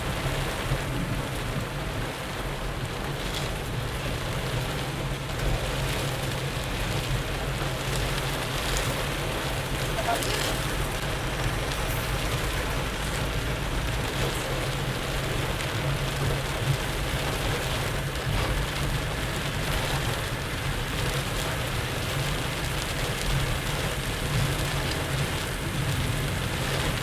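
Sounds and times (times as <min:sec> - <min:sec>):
heavy rain on a car: 0:00.0 - 0:27.0
tyres rumbling on wet road: 0:00.0 - 0:27.0.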